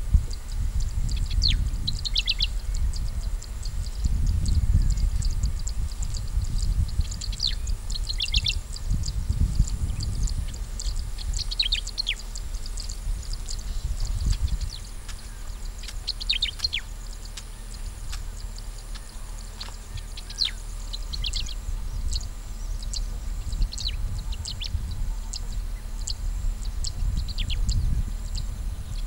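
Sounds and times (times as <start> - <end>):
birds chirping: 0.0 - 29.0
low uneven rumble: 0.0 - 29.0.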